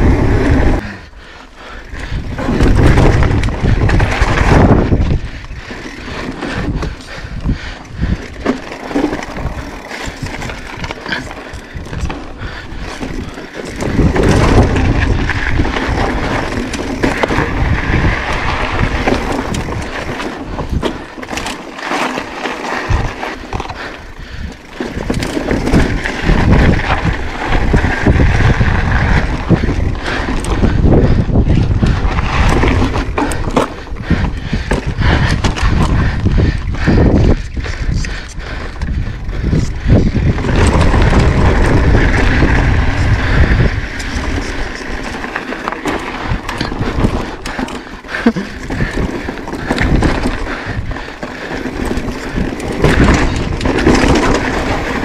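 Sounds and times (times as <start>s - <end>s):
bike rattles and knocks: 0.0s - 1.0s, 1.6s - 55.0s
wind rumble on microphone: 0.0s - 21.5s, 22.7s - 55.0s
bike tyre noise: 0.0s - 55.0s.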